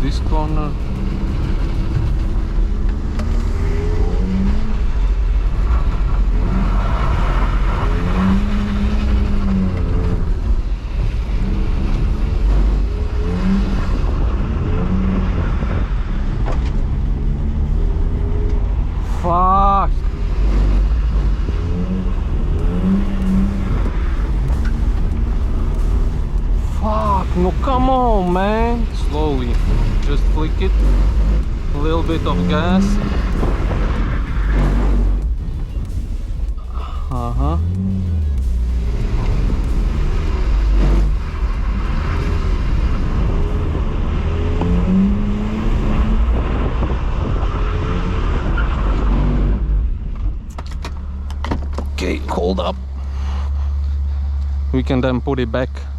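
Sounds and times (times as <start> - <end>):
car engine rumbling and revving: 0.0 - 55.9.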